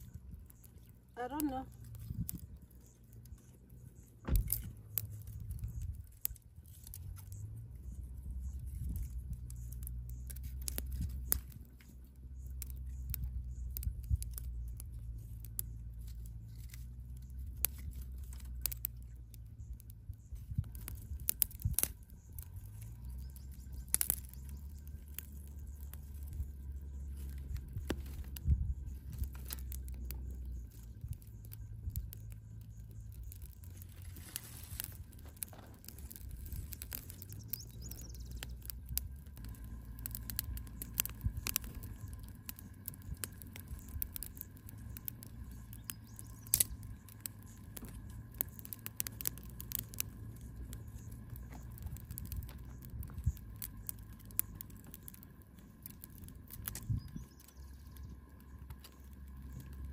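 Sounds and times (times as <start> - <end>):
low steady rumble: 0.0 - 59.9.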